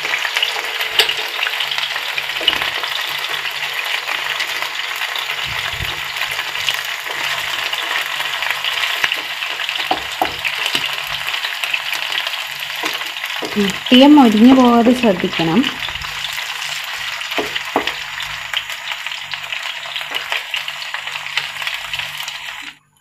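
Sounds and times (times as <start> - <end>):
chicken sizzling in oil: 0.0 - 22.8.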